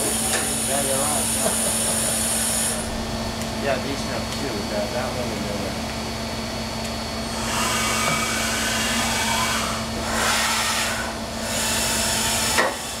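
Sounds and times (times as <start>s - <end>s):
machining center humming: 0.0s - 13.0s.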